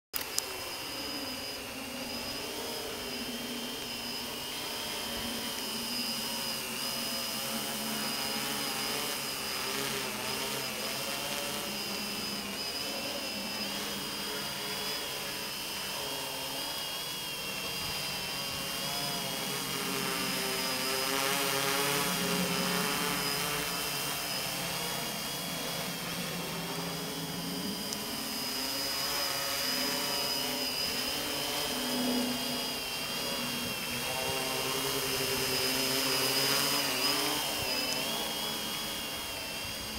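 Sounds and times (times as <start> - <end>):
drone propellers whining: 0.2 - 39.9.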